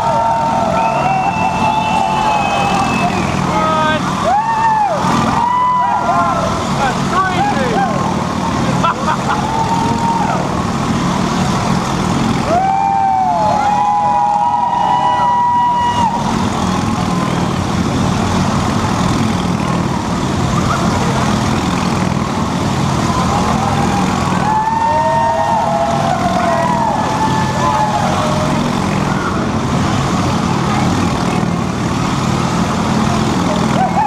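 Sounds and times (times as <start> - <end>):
motorcycle engine running hard: 0.0 - 34.0
whining tones: 0.0 - 34.0.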